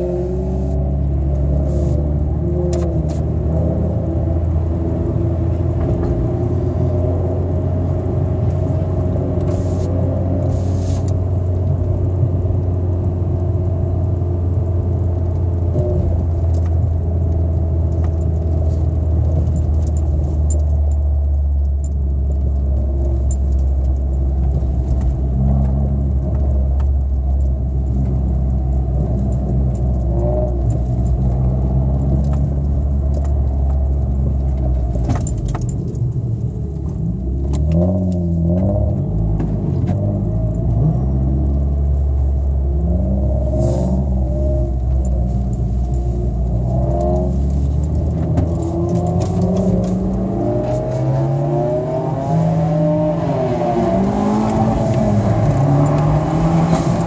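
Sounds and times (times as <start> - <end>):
car engine drone inside cabin: 0.0 - 57.0.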